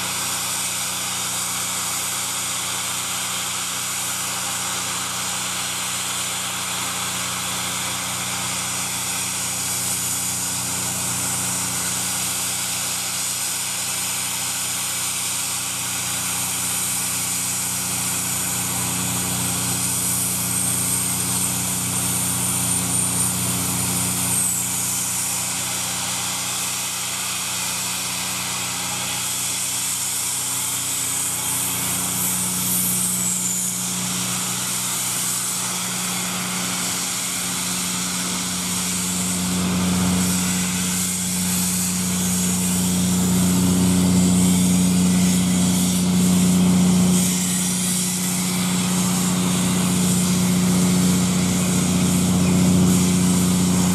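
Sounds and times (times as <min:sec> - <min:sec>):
steam locomotive hissing steam: 0:00.0 - 0:53.9.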